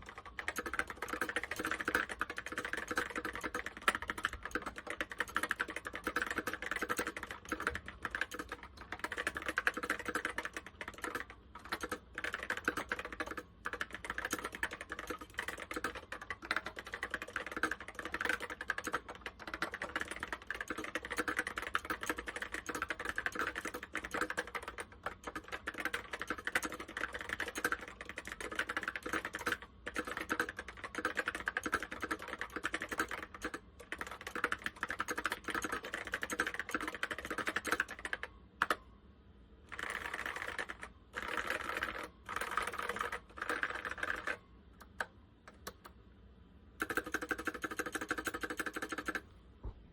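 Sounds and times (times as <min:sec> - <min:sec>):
fast keyboard typing: 0:00.0 - 0:38.8, 0:39.7 - 0:45.9, 0:46.8 - 0:49.3.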